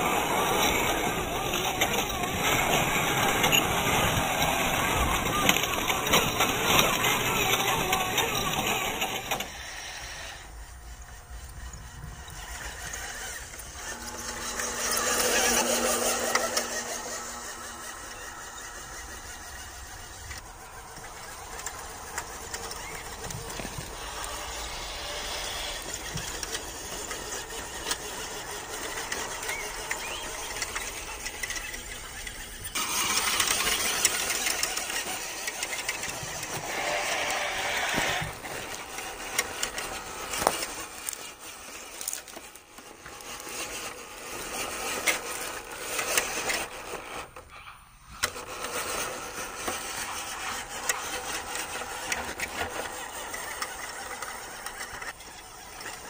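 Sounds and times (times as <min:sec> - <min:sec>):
tires on dirt and gravel: 0:00.0 - 0:56.0
toy truck electric motor whining: 0:00.0 - 0:56.0.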